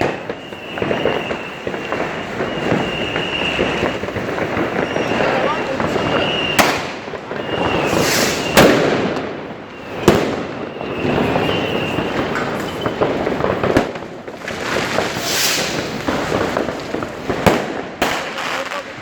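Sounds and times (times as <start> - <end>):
firework whistle: 0.0 - 19.0
fireworks crackling: 0.0 - 19.0
hissing firework burst: 0.0 - 19.0
sharp firework bang: 0.0 - 19.0.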